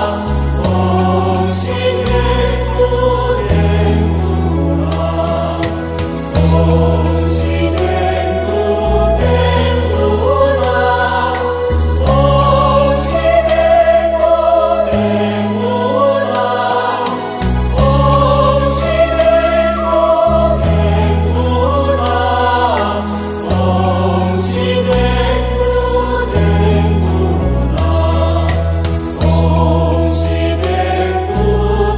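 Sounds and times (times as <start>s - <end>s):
held low accompaniment notes: 0.0s - 31.9s
voices singing slow hymn: 0.0s - 31.9s.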